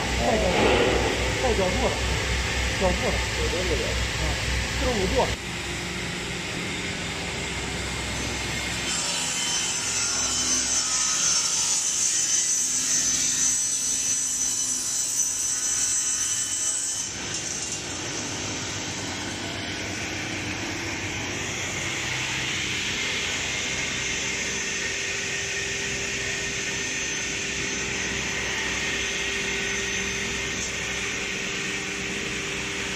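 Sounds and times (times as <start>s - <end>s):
saw cutting wood whine: 6.2s - 32.9s.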